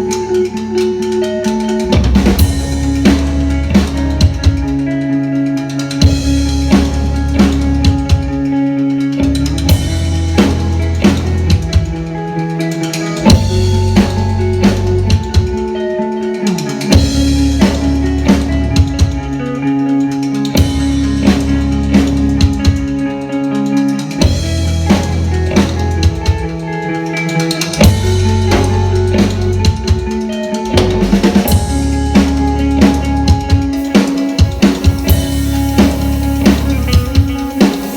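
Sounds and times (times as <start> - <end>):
bass guitar: 0.0 - 37.9
drum kit: 0.0 - 37.9
electric guitar: 0.0 - 37.9.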